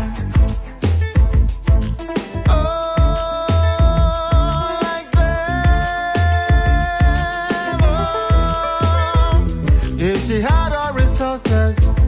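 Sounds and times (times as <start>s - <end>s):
upbeat music with drum beat: 0.0s - 12.0s.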